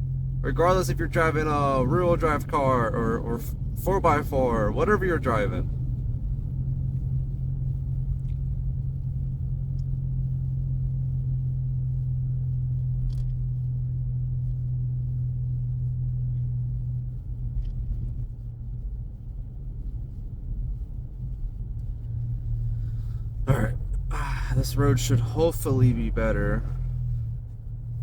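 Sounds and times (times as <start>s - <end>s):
low engine drone: 0.0s - 28.0s
rumbling road noise: 0.0s - 28.0s.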